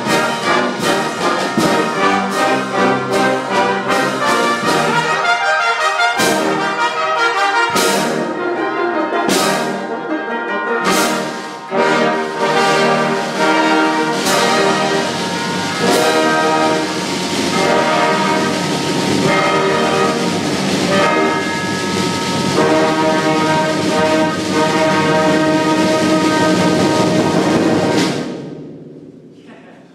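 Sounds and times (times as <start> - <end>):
sharp percussion hits: 0.0 - 10.1, 10.7 - 29.6
brass chords: 0.0 - 28.5
orchestra playing loudly: 0.0 - 28.7.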